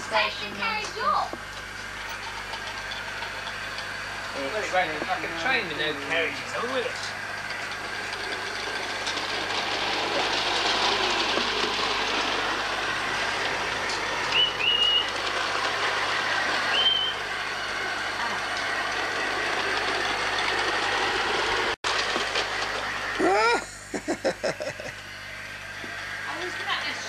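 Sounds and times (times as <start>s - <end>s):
model steam engine hissing: 3.0s - 21.8s, 22.5s - 27.0s.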